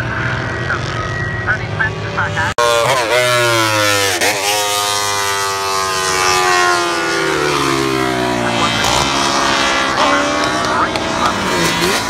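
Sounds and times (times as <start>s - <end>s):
racing motorcycle engine revving: 0.0s - 12.0s.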